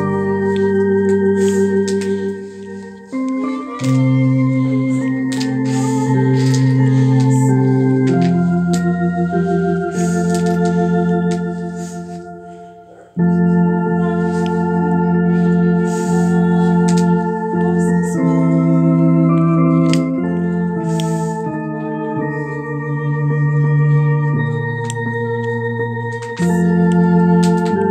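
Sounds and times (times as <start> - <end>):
electronic organ chords: 0.0 - 27.9.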